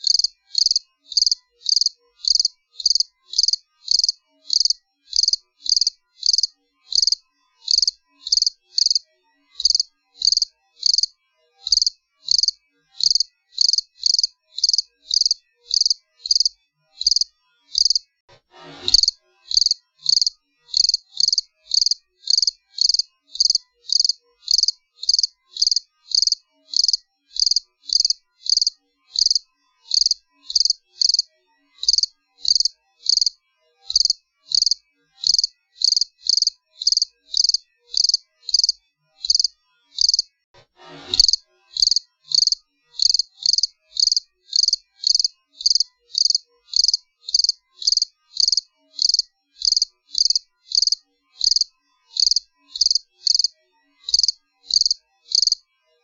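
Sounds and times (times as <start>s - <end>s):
cricket chirping: 0.0s - 9.0s, 9.6s - 11.1s, 11.7s - 18.0s, 18.9s - 40.3s, 41.2s - 53.5s, 54.1s - 55.6s.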